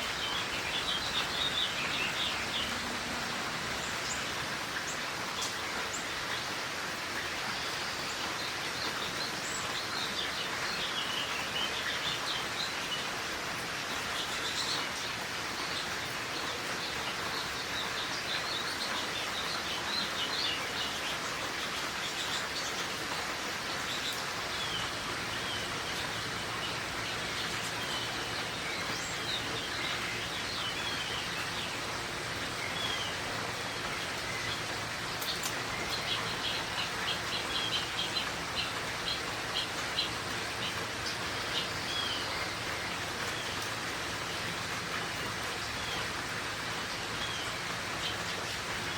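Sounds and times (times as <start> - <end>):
small birds chirping: 0.0 - 48.9
steady rain falling: 0.0 - 48.9.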